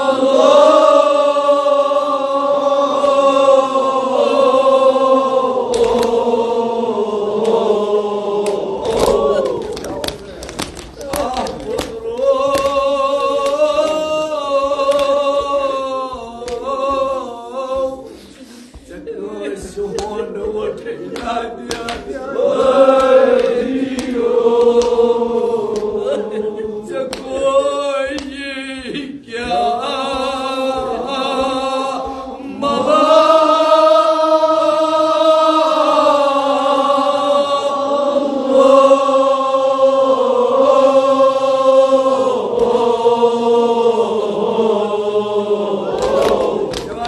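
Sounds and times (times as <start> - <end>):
men chanting unaccompanied: 0.0 - 47.0.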